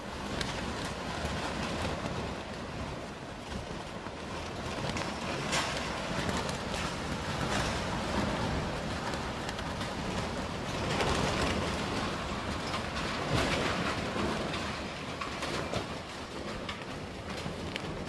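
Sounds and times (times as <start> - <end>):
small knocks and rattles: 0.2 - 18.0.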